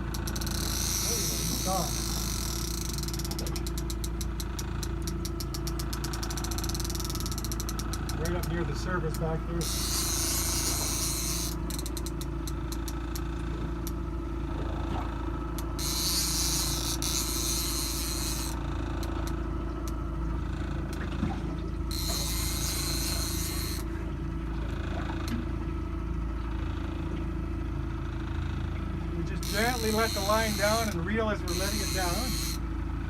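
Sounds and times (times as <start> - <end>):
boat engine rumbling: 0.0 - 33.0.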